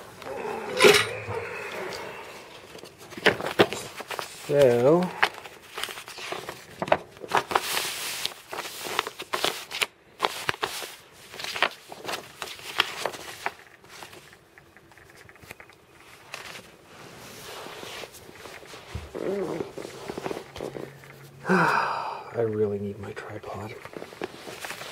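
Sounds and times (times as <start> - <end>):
paper leaflet rustling: 1.4 - 21.4, 23.5 - 24.9.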